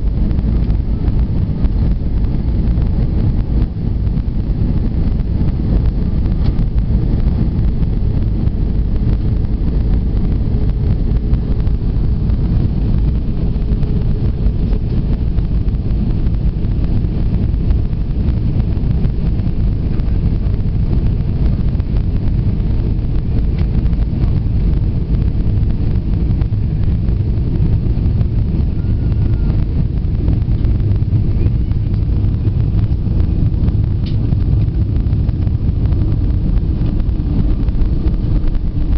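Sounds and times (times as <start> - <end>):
airplane cabin engine rumble: 0.0 - 38.9
faint steady hum: 0.0 - 38.9.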